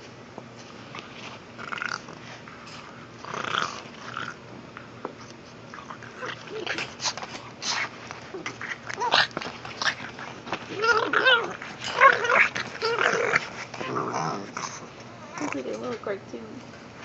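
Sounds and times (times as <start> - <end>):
dog making play noises: 1.2 - 15.9.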